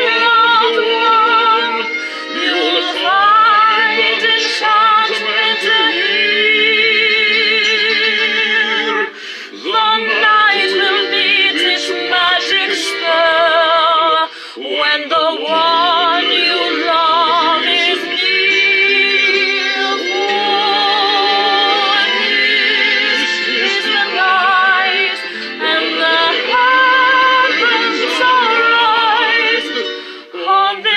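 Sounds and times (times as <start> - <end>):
music: 0.0 - 30.9
woman singing with vibrato: 0.0 - 30.9.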